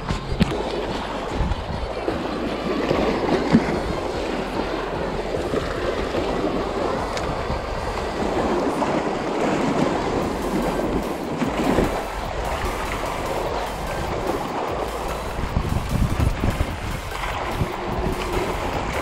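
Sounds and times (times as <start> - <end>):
waves splashing against rocks: 0.0 - 19.0.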